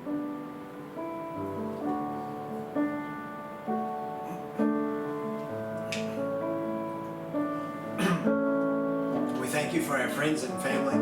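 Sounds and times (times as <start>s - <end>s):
keyboard playing sustained chords: 0.0s - 11.0s.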